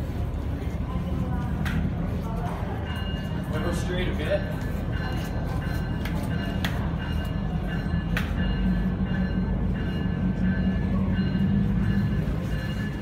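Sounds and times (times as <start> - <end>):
diesel locomotive engine rumble: 0.0 - 13.0
locomotive bell ringing: 0.6 - 13.0.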